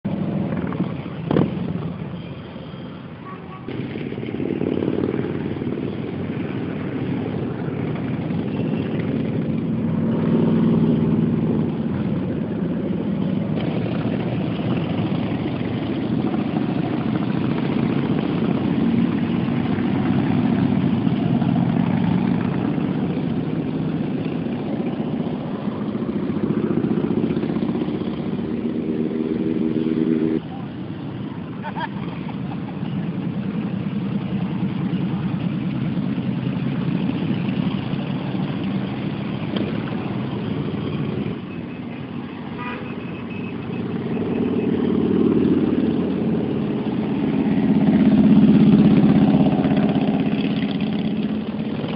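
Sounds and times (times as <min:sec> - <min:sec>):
motorcycle engines rumbling past: 0:00.1 - 0:51.9.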